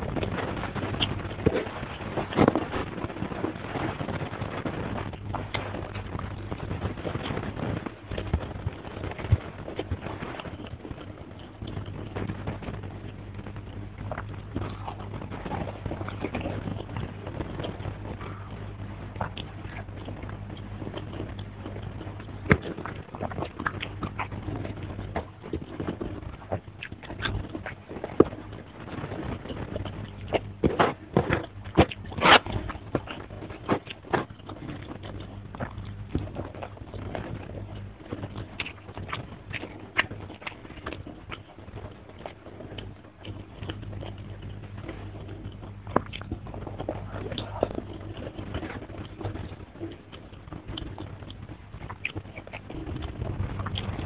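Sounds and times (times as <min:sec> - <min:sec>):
chewing and biting: 0:00.0 - 0:54.0
low steady hum: 0:00.0 - 0:54.0.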